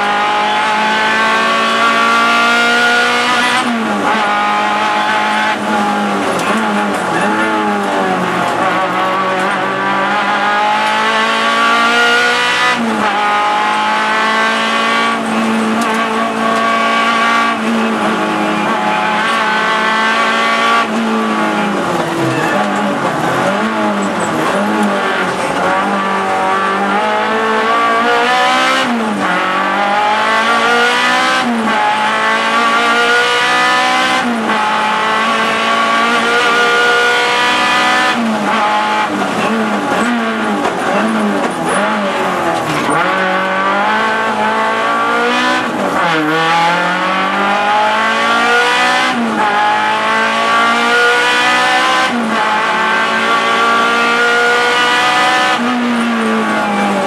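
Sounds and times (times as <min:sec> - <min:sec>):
car engine revving hard: 0:00.0 - 0:57.0
engine blipping on downshifts: 0:00.0 - 0:57.0.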